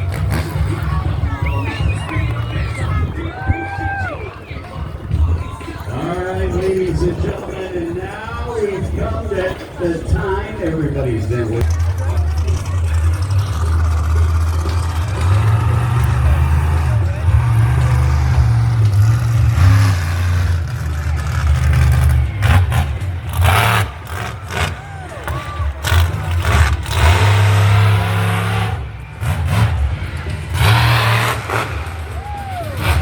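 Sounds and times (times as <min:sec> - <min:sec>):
motor engines revving: 0:00.0 - 0:33.0.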